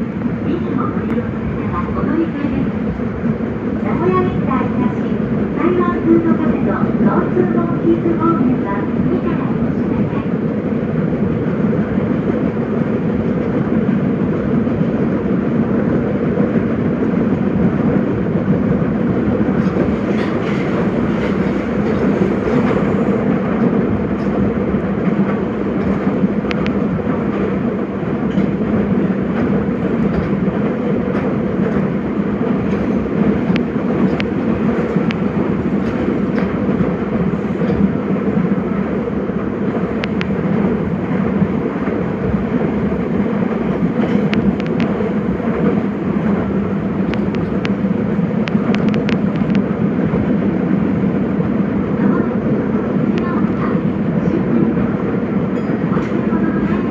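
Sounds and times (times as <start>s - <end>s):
train wheel and motor drone: 0.0s - 56.9s.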